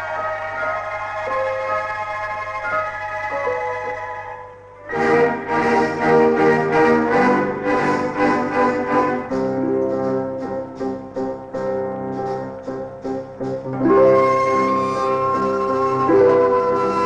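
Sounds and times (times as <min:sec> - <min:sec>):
sustained melody tones: 0:00.0 - 0:17.0.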